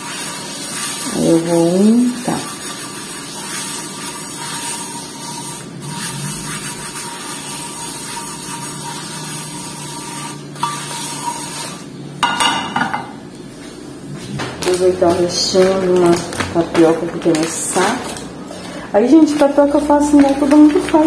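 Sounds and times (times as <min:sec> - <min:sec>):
paper towel rubbing a pan: 0:00.0 - 0:12.0, 0:14.6 - 0:18.2, 0:19.0 - 0:21.0.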